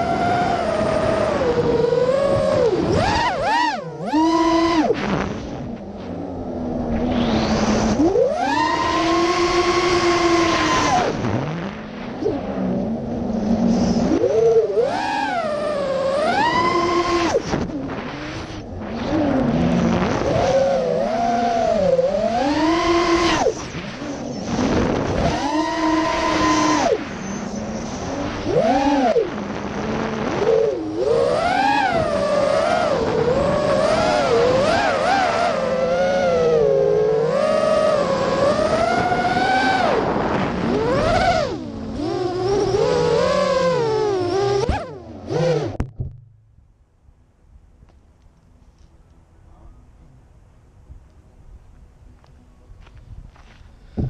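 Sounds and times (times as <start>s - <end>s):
quadcopter motors whining: 0.0s - 45.8s.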